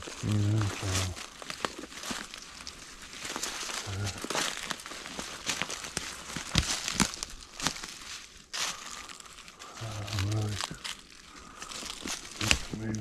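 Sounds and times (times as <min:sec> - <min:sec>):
leaves and twigs crackling: 0:00.0 - 0:13.0
twigs snapping: 0:00.0 - 0:13.0.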